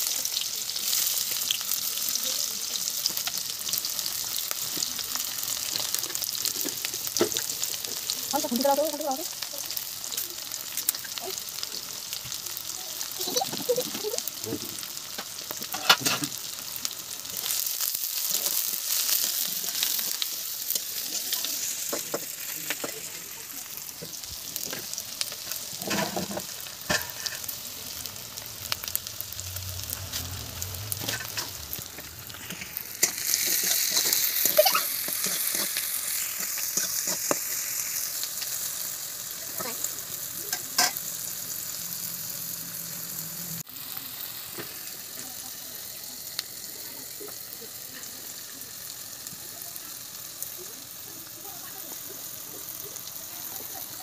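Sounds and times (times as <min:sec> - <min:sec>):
onions sizzling in hot oil: 0:00.0 - 0:54.0.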